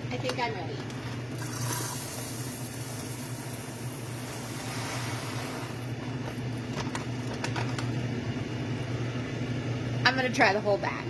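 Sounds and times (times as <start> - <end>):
air fryer hum and fan: 0.0 - 11.0.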